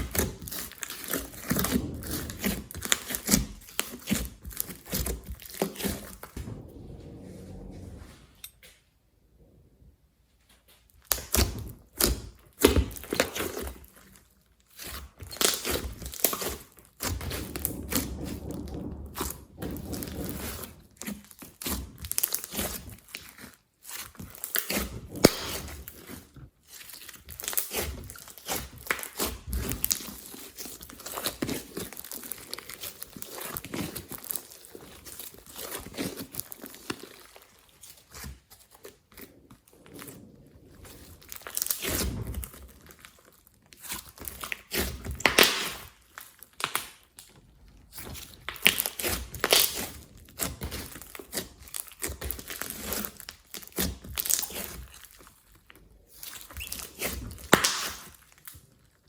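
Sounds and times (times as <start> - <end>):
slime squelching and crackling: 0.0 - 8.1, 10.9 - 59.0.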